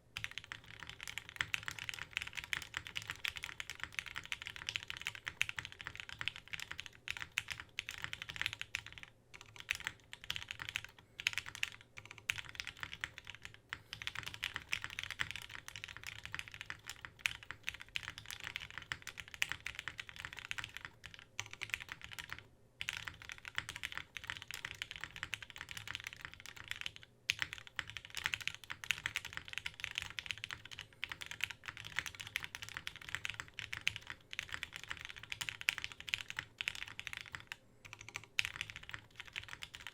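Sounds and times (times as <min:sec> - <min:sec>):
fast mechanical keyboard typing: 0:00.2 - 0:39.9.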